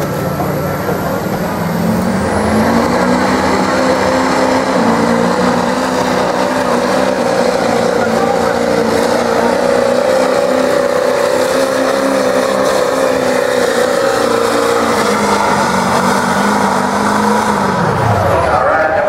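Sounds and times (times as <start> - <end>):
diesel pickup engine under heavy load: 0.0 - 19.0.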